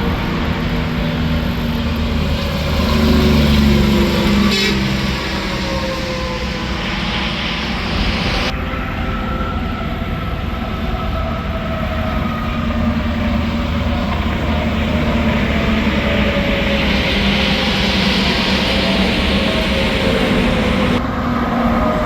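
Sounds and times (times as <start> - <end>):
trucks passing on highway: 0.0 - 22.0.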